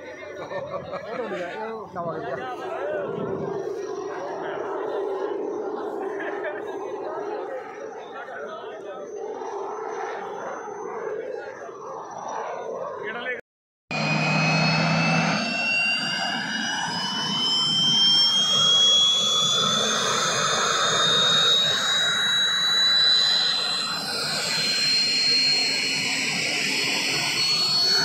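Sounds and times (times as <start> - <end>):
helicopter turbine whine: 0.0 - 28.0.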